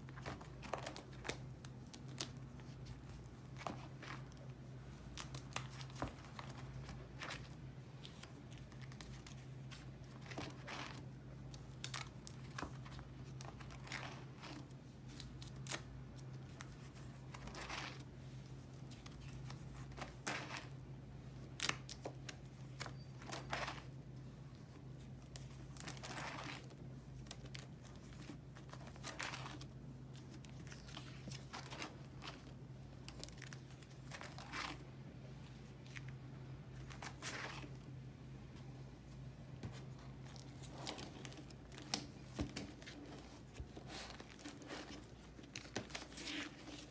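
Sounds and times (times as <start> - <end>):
low steady hum: 0.0 - 46.9
plastic binder sleeves crinkling: 0.0 - 46.9.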